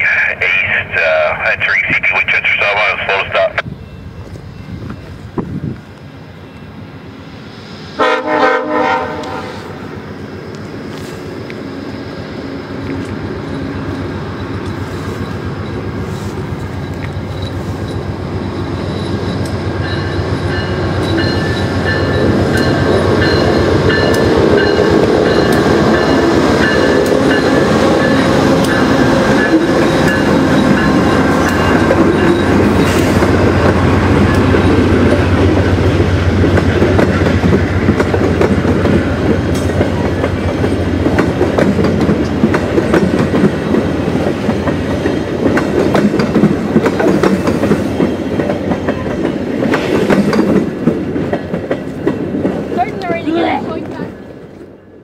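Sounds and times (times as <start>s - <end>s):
diesel locomotive passing: 0.0s - 55.0s.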